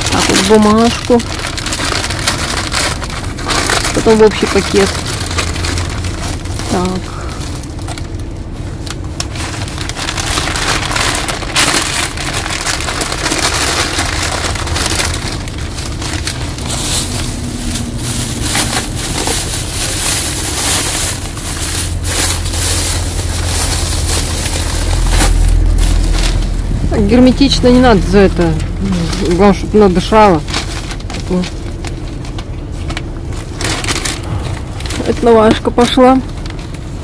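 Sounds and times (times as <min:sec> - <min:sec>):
paper and plastic bags crinkling: 0:00.0 - 0:37.0.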